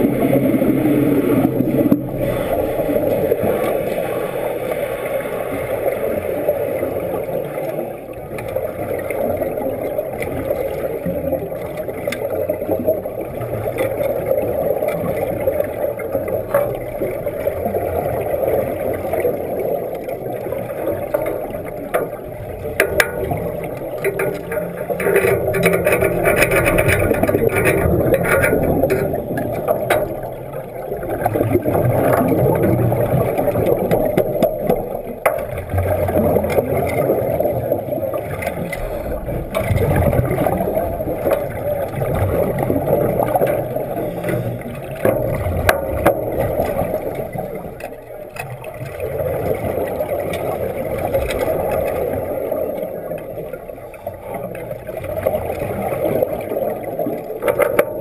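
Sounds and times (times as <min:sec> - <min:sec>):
muffled underwater rush: 0:00.0 - 0:58.0
underwater crackles: 0:00.0 - 0:58.0.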